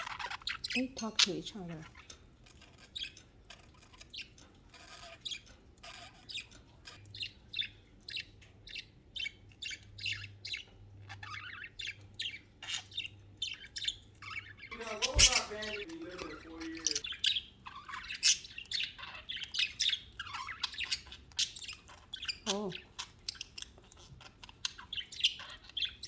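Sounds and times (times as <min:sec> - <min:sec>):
budgerigars chirping and warbling: 0:00.0 - 0:26.0.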